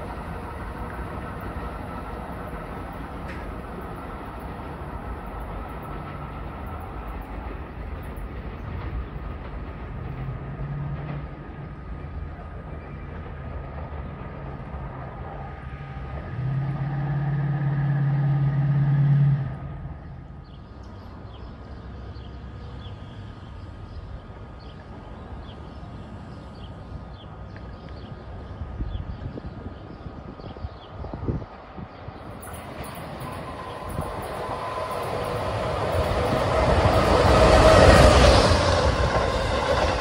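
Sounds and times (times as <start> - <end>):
electric train rumbling: 0.0 - 40.0.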